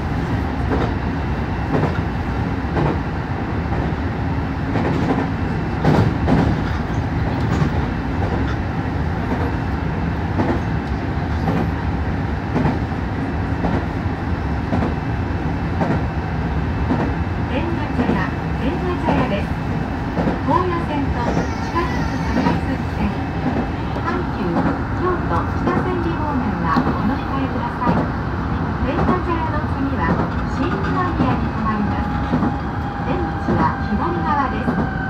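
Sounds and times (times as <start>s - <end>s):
train running rumble: 0.0s - 35.0s.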